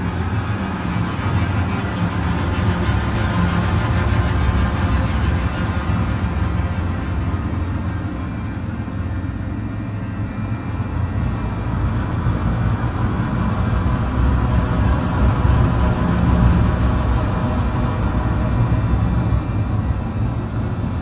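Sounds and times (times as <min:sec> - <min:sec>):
dark ambient drone music: 0:00.0 - 0:21.0.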